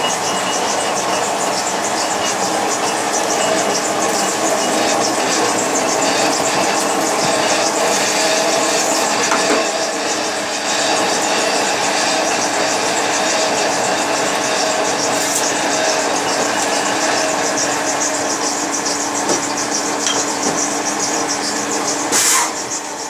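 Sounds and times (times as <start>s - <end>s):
metal-spinning machine running: 0.0s - 23.0s.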